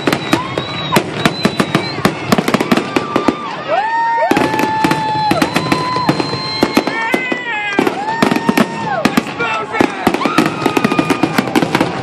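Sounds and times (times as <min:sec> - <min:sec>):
fireworks bangs and crackles: 0:00.0 - 0:12.0
high whistling fireworks: 0:00.0 - 0:12.0.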